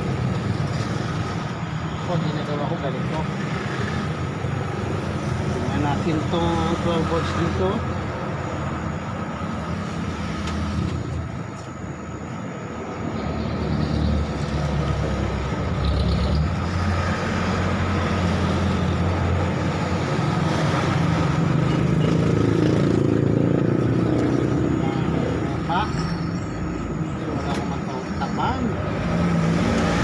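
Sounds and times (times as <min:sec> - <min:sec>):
road vehicle engine rumble: 0:00.0 - 0:30.0.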